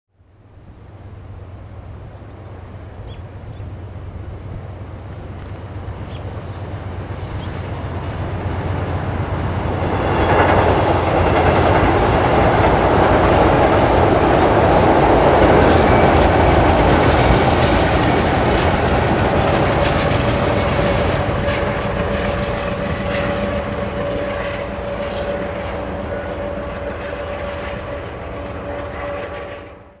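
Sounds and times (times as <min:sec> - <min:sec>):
train wheels rumbling and clacking: 0:02.5 - 0:30.0.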